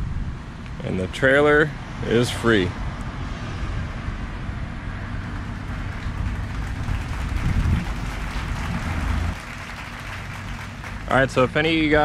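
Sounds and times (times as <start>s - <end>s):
truck engine and trailer rumble: 0.0s - 12.0s.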